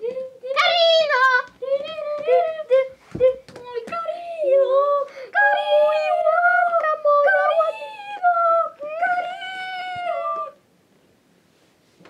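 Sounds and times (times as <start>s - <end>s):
child singing: 0.0s - 10.6s.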